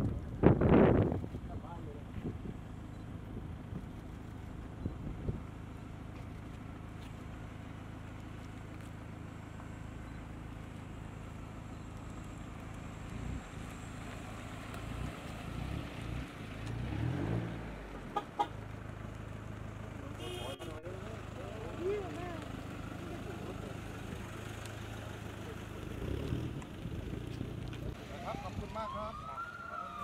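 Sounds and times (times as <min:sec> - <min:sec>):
vehicle engines passing slowly: 0:00.0 - 0:30.0.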